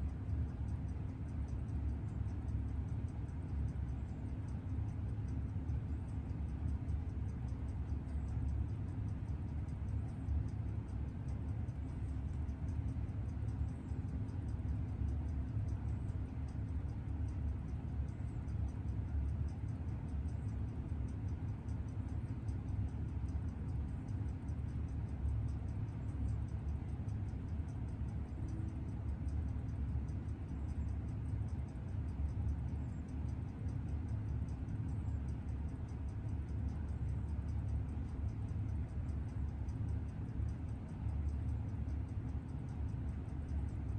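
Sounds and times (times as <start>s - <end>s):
steady low hum: 0.0s - 43.9s
watch movement ticking: 0.1s - 43.9s.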